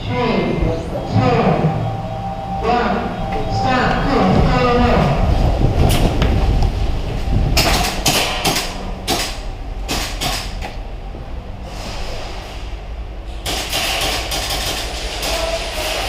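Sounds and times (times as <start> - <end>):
rumbling background noise: 0.0 - 16.0.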